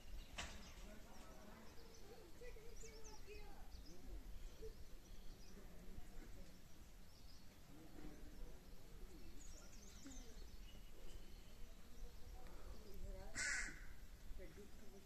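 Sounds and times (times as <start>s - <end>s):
faint distant voices: 0.0s - 15.0s
small birds chirping: 0.0s - 15.0s.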